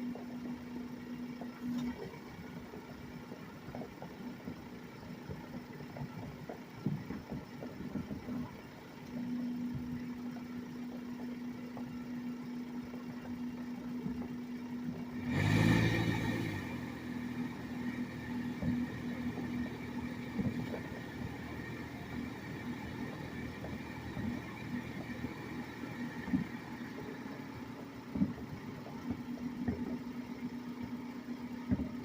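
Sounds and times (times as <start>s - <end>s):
motor vehicle engine: 0.0s - 32.0s
steady low hum: 0.0s - 32.0s.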